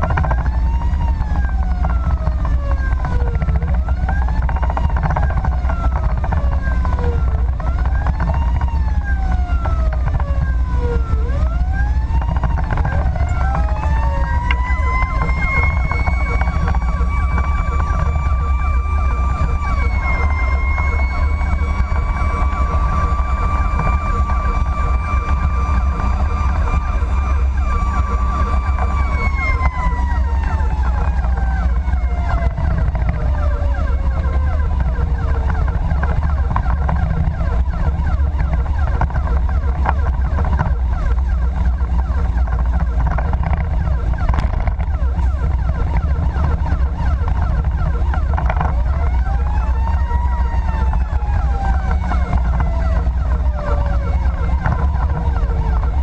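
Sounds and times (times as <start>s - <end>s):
engine and road rumble: 0.0s - 56.0s
fire engine siren: 0.0s - 56.0s
siren yelp: 0.0s - 56.0s.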